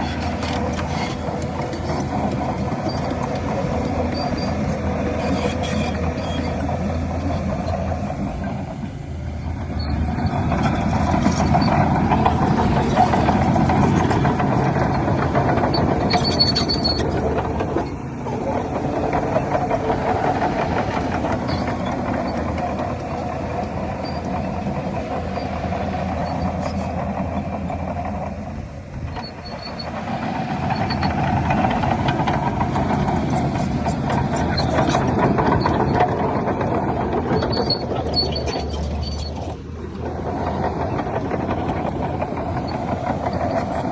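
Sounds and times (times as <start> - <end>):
bulldozer diesel engine running hard: 0.0 - 43.9
bulldozer track and blade noise: 0.0 - 43.9.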